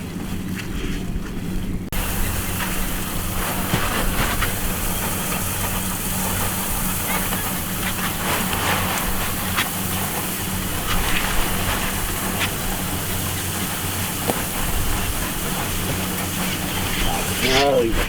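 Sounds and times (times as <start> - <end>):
engine hum: 0.0 - 18.0
machinery rushing noise: 1.9 - 18.0
short crackles: 2.1 - 18.0.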